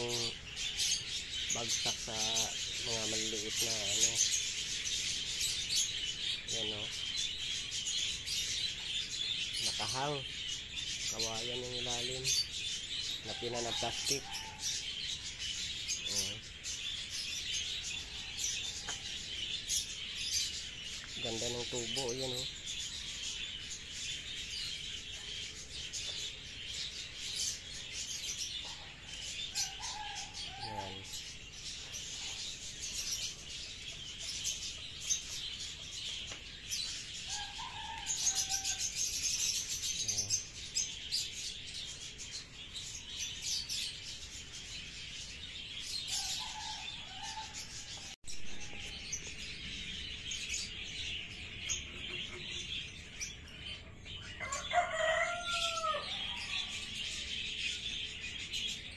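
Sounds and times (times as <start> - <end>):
birds chirping in chorus: 0.0 - 58.9.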